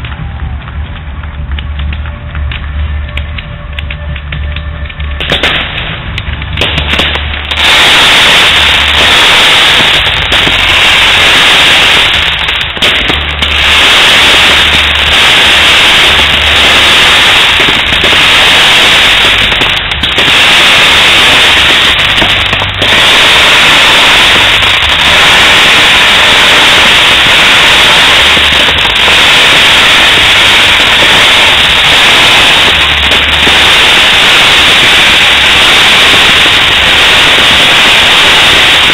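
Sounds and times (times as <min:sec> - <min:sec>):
fireworks crackling: 0:00.0 - 0:38.9.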